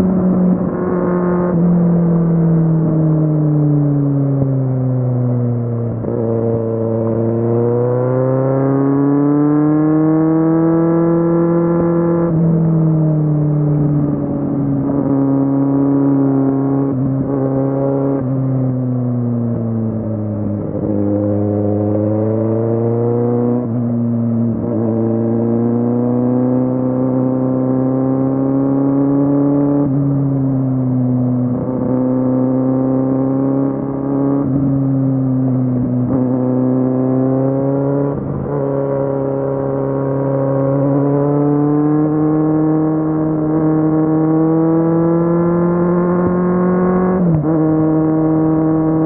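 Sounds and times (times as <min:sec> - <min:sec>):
motorcycle engine accelerating: 0:00.0 - 0:49.0.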